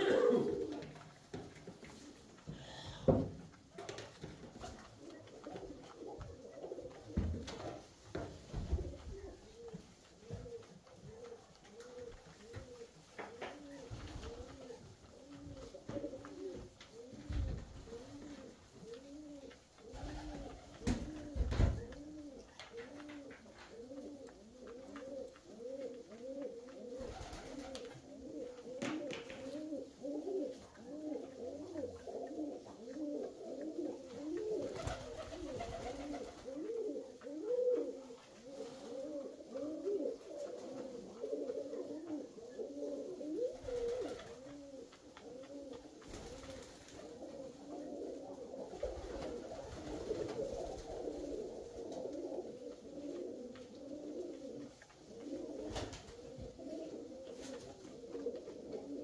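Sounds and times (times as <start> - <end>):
flock of pigeons cooing: 0.0 - 59.0.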